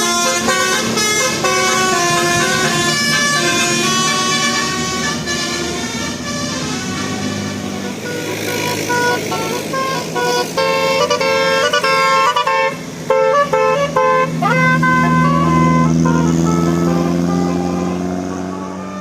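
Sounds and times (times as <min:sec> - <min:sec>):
bus engine hum: 0:00.0 - 0:19.0
musical bus horn tune: 0:00.0 - 0:19.0.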